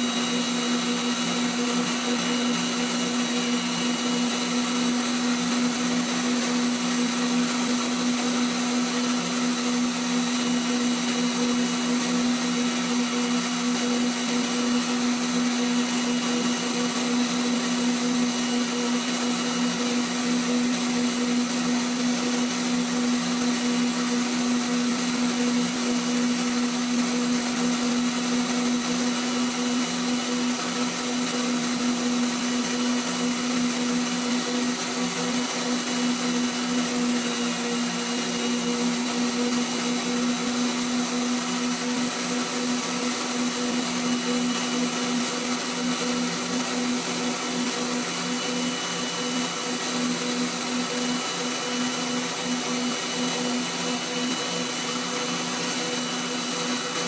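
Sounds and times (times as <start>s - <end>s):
grinder humming with high hiss: 0.0s - 57.0s.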